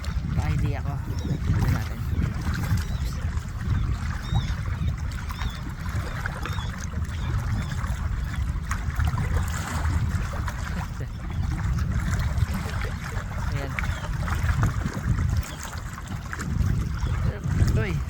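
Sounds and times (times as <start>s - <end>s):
low rumble: 0.0s - 18.0s
seawater sloshing among rocks: 0.0s - 18.0s.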